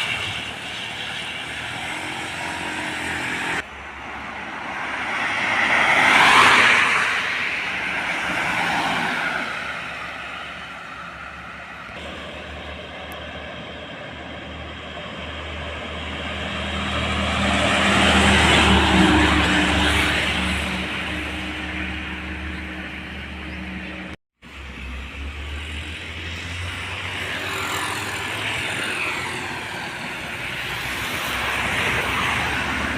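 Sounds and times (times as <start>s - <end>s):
heavy vehicles passing: 0.0s - 32.9s.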